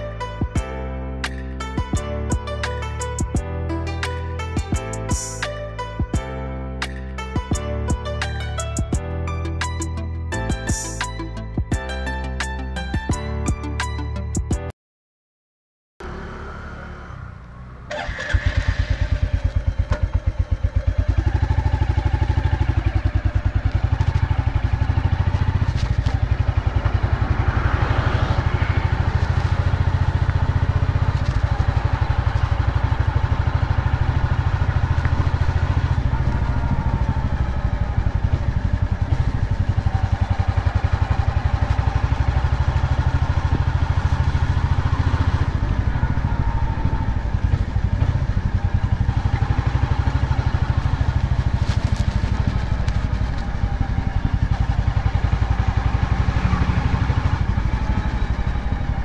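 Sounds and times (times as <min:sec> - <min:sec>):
motorcycle engine starting and running: 0:00.0 - 0:14.6, 0:16.0 - 0:59.0.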